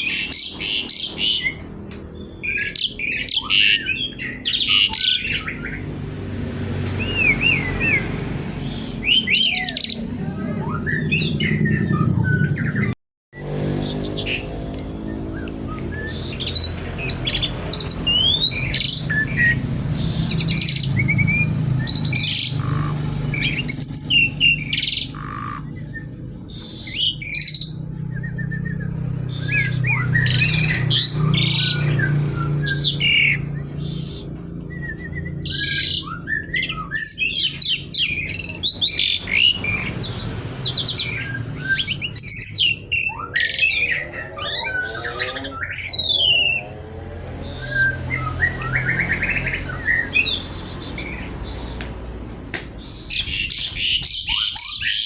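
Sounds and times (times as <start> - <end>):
starling singing: 0.0 - 13.0, 13.7 - 52.0, 52.8 - 55.0.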